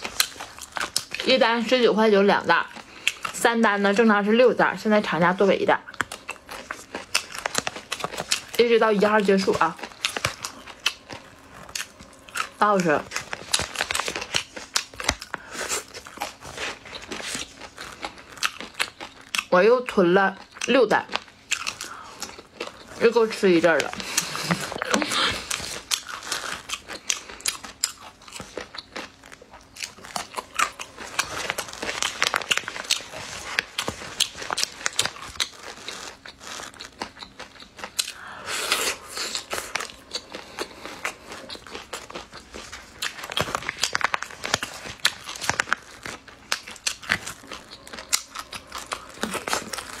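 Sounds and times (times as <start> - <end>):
biting and chewing food: 0.0 - 50.0
plastic bag crinkling: 6.0 - 19.5, 21.1 - 38.0, 39.2 - 50.0.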